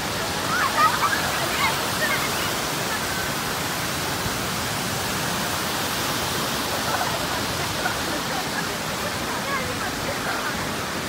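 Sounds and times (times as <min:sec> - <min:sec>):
whitewater roaring down rocks: 0:00.0 - 0:11.0.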